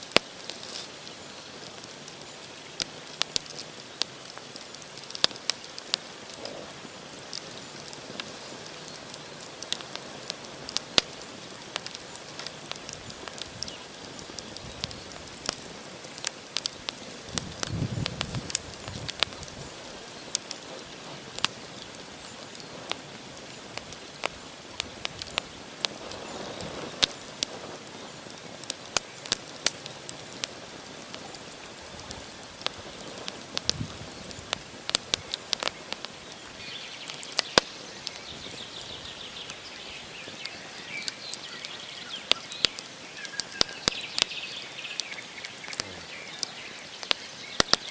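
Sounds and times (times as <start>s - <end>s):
fire hissing: 0.0s - 47.8s
campfire crackling and popping: 0.0s - 47.9s.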